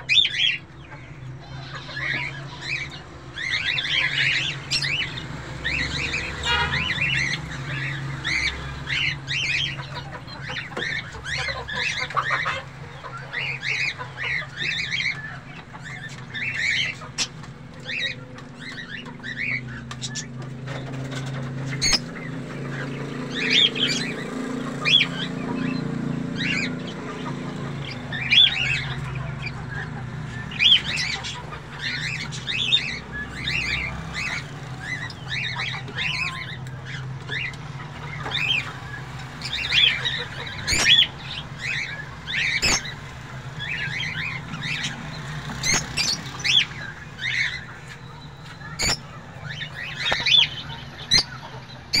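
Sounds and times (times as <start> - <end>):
budgerigars chirping and squawking: 0.0 - 52.0.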